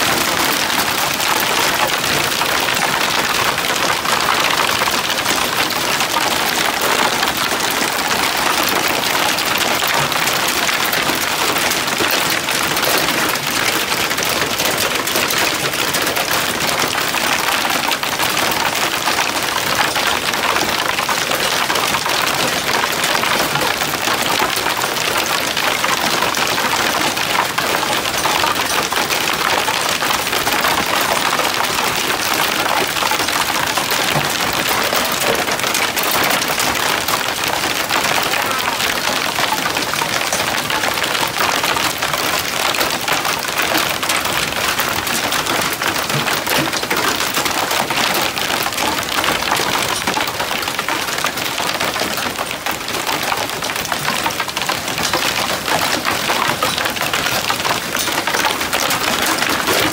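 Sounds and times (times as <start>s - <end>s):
hail clattering on wooden deck: 0.0s - 59.9s.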